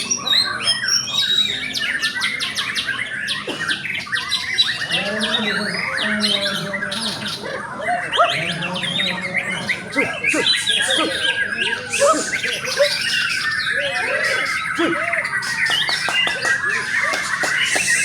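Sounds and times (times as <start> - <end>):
birds singing whistles and trills: 0.0 - 18.0.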